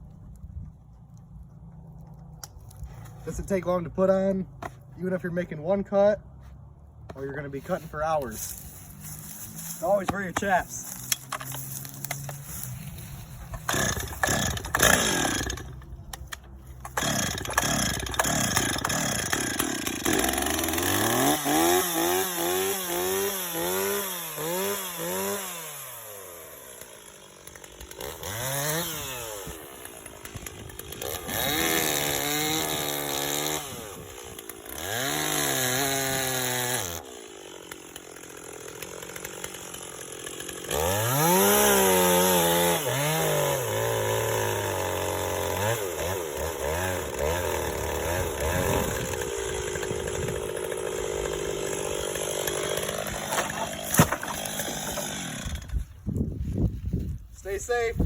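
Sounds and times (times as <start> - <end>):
chainsaw engine revving: 7.6 - 55.8.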